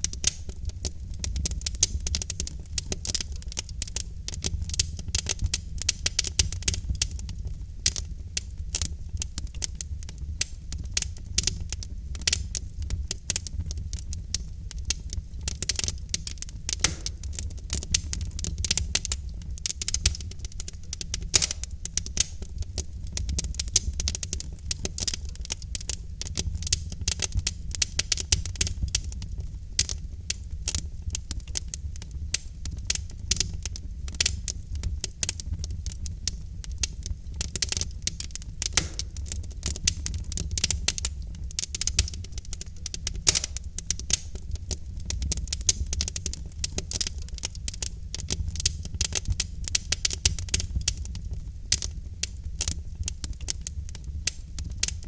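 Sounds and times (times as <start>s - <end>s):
low rumble of burning logs: 0.0s - 55.0s
wood fire crackling and popping: 0.0s - 55.0s.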